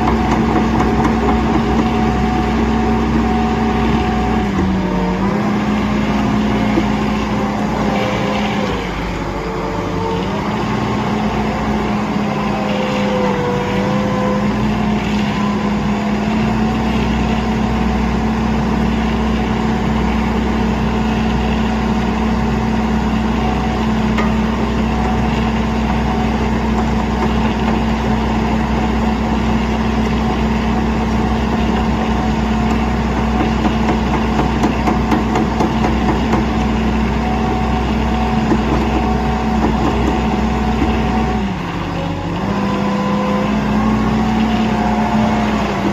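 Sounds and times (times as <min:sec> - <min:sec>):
heavy engine running: 0:00.0 - 0:45.9.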